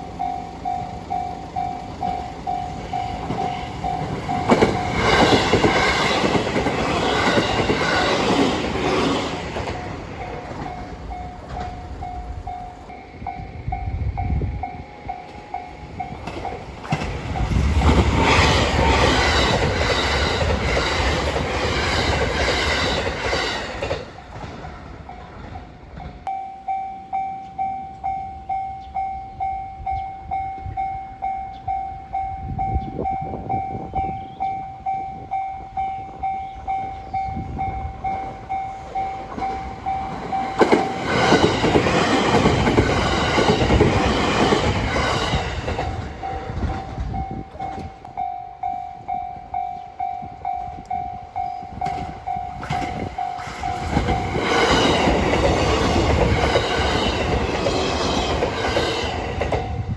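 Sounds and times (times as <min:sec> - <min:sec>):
level-crossing warning bell: 0:00.0 - 0:59.9
train rumble and wheel noise: 0:00.0 - 0:59.9.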